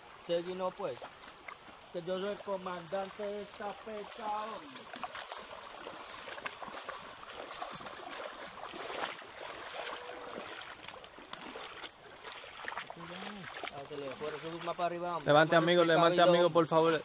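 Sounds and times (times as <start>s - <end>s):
feet splashing through water: 0.0s - 17.0s
rushing water: 0.0s - 17.0s.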